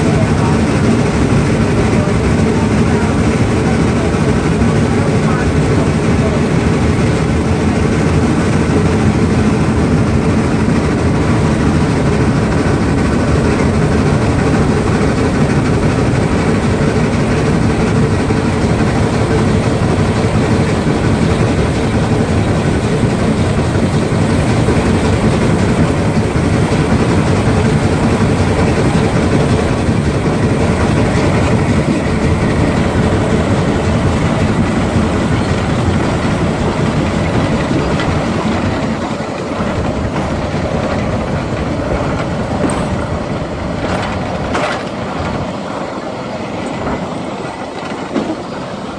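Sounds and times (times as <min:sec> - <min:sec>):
steam locomotive running: 0:00.0 - 0:48.9.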